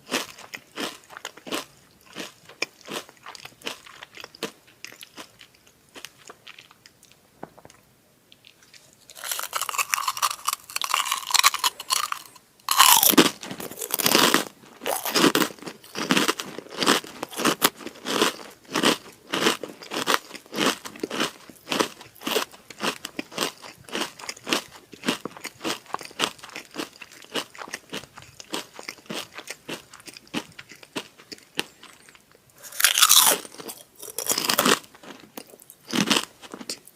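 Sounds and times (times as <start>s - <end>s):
crackers crunching: 0.1s - 36.9s.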